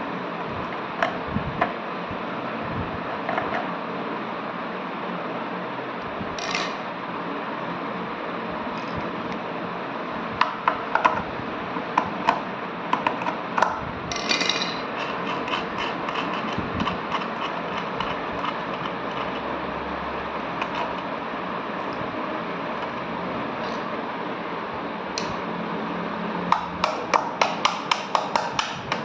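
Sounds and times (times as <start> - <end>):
steady background whir: 0.0 - 29.0.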